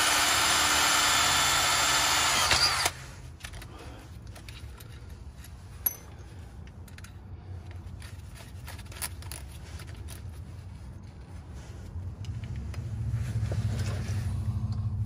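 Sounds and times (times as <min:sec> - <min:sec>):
steady low hum: 0:02.9 - 0:15.0.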